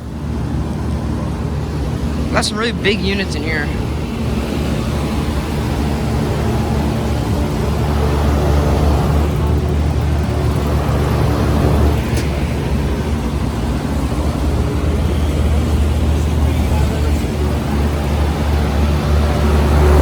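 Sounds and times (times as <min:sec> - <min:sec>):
air conditioning units humming: 0:00.0 - 0:20.0.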